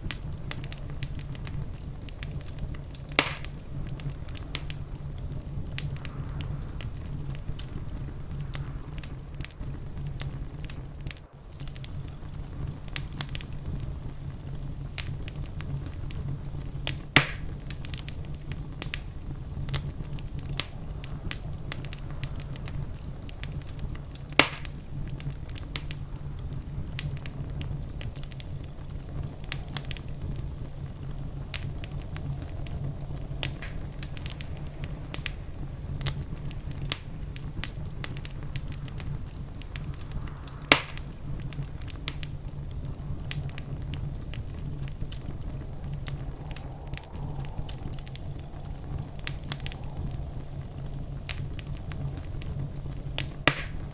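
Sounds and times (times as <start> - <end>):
loud fire pops: 0.0 - 53.9
wood fire crackling: 0.0 - 53.9.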